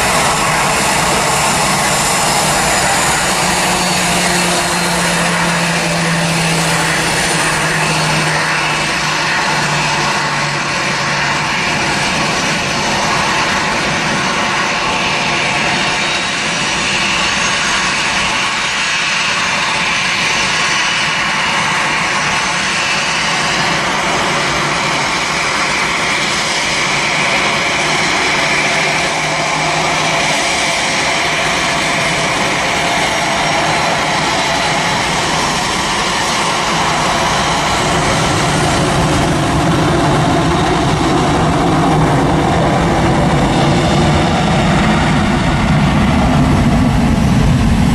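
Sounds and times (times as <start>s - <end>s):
jet engines running at low thrust: 0.0s - 47.9s.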